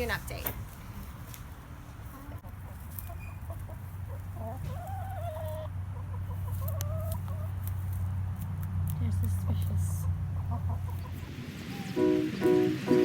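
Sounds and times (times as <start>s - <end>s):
chickens calling: 1.4s - 13.0s.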